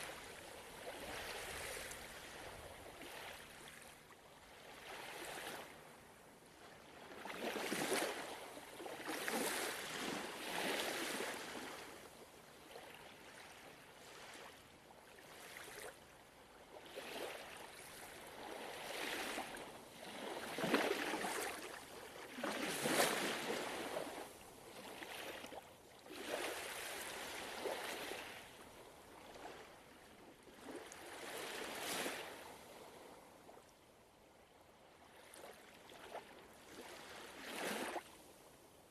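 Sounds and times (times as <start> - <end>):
ocean waves breaking on shore: 0.0 - 33.6, 35.0 - 38.4.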